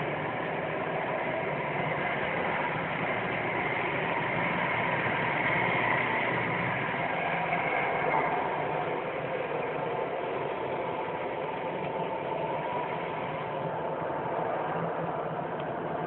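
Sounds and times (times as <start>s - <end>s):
steady droning hum: 0.0s - 16.0s.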